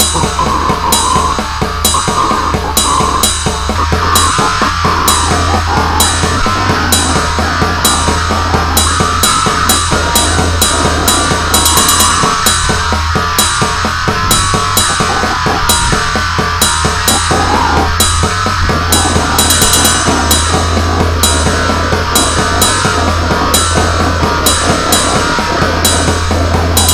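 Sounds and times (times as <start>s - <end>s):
distorted low drone: 0.0s - 26.9s
pounding drums: 0.0s - 26.9s.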